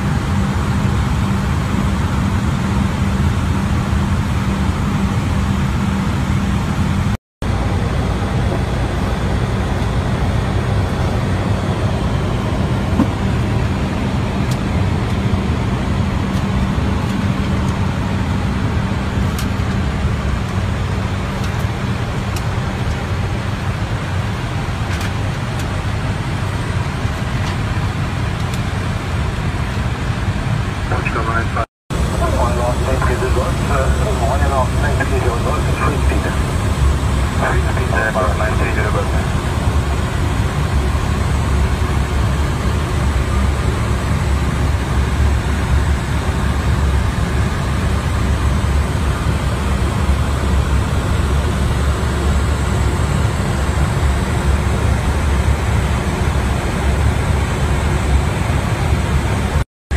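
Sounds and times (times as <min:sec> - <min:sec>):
cockpit airflow and engine noise: 0:00.0 - 0:59.6
steady low hum: 0:00.0 - 0:59.6.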